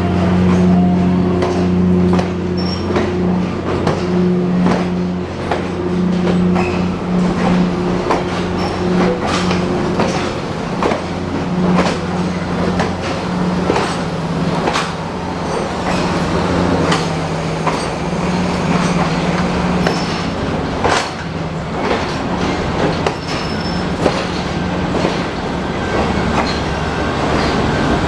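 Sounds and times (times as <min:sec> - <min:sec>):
locomotive engine droning: 0:00.0 - 0:28.0
train wheels clicking over rail joints: 0:00.4 - 0:28.0.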